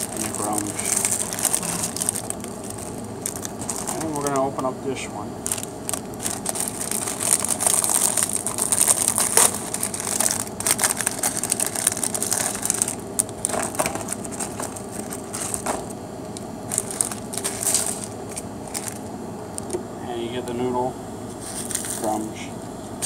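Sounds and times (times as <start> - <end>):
plastic wrapper crinkling: 0.0 - 4.6, 5.4 - 19.8, 21.4 - 22.2.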